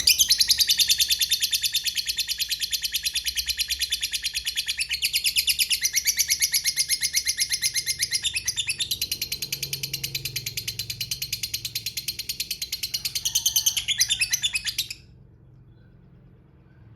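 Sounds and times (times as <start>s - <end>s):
lovebird shrill chattering chirps: 0.0s - 15.0s.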